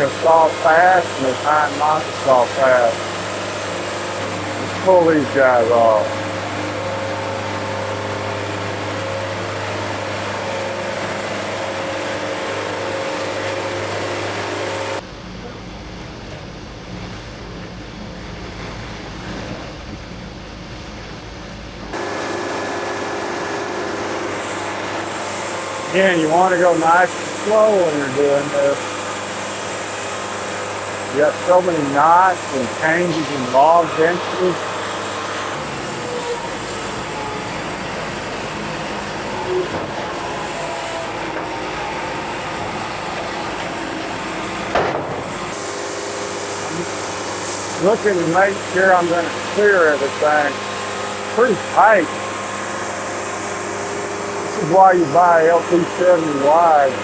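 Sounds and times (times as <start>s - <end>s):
sawmill engine humming: 0.0s - 57.0s
steady whine: 0.0s - 57.0s.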